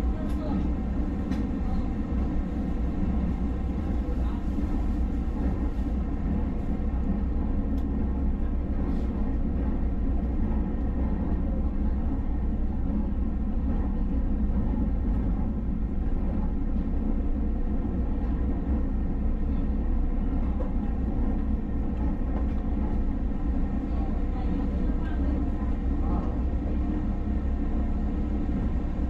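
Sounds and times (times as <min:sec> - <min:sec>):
constant hum: 0:00.0 - 0:29.0
train running rumble: 0:00.0 - 0:29.0.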